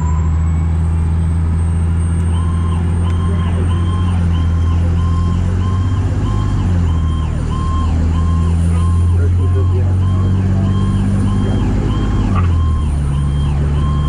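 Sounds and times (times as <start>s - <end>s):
road noise: 0.0s - 14.0s
truck engine drone: 0.0s - 14.0s
high steady siren whine: 1.6s - 14.0s
electronic siren cycling: 2.0s - 14.0s.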